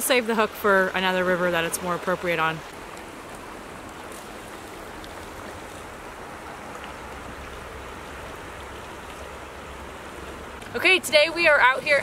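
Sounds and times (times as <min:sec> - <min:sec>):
river rushing over gravel: 0:00.0 - 0:12.0.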